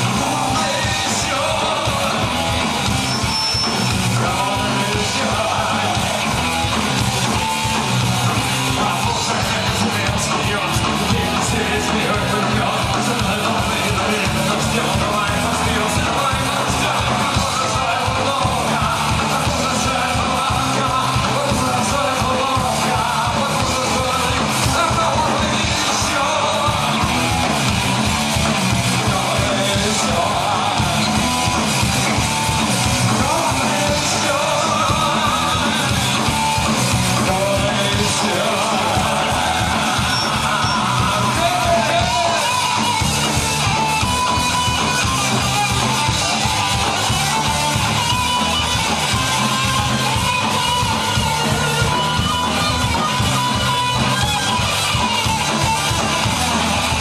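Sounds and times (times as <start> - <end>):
electric guitar: 0.0 - 57.0
punk rock band playing: 0.0 - 57.0.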